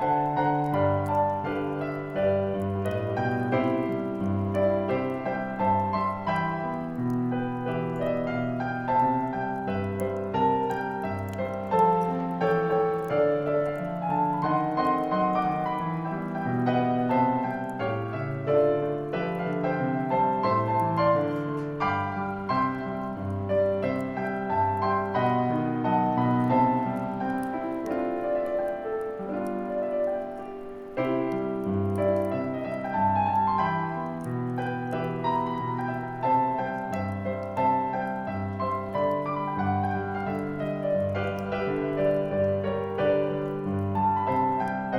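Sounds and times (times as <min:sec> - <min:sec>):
solo piano playing calm song: 0:00.0 - 0:44.9.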